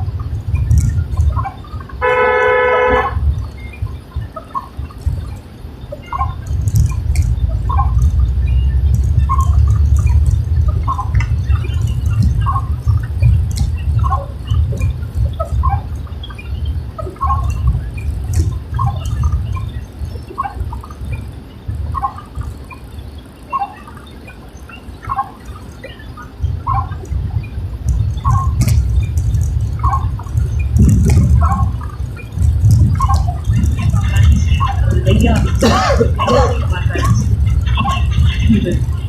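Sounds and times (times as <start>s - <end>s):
low road rumble: 0.0s - 39.0s
raindrop ticks: 0.0s - 39.0s
windscreen wipers squeaking: 0.0s - 39.0s.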